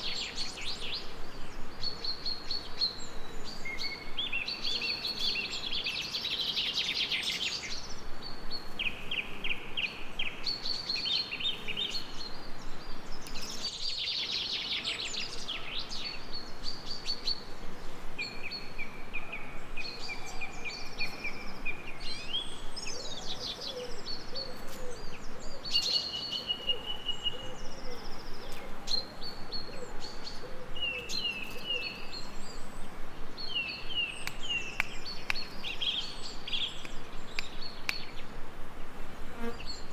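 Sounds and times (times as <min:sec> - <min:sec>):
songbirds trilling and chirping: 0:00.0 - 0:39.9
steady background hiss: 0:00.0 - 0:39.9.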